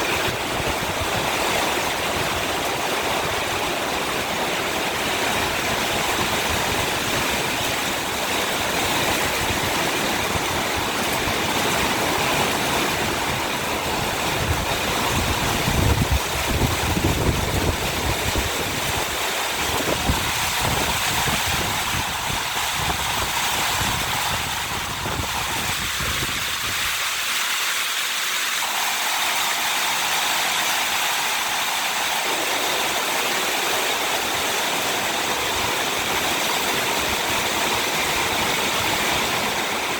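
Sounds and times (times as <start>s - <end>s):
wind gusts on microphone: 0.0s - 27.7s, 28.6s - 39.9s
heavy rain: 0.0s - 39.9s.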